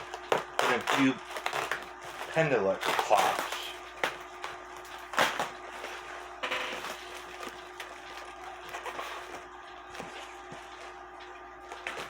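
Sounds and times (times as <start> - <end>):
cardboard and packing rustling: 0.0 - 12.0
faint steady hum: 0.0 - 12.0.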